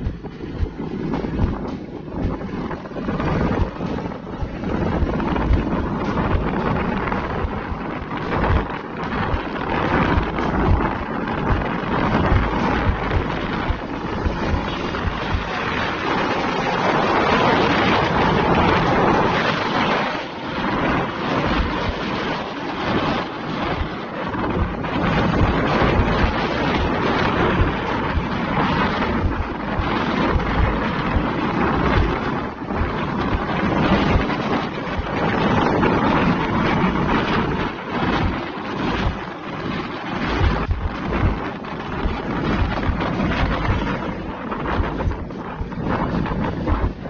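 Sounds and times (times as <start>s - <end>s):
trucks driving on highway: 0.0s - 47.0s
wind buffeting on microphone: 0.0s - 47.0s.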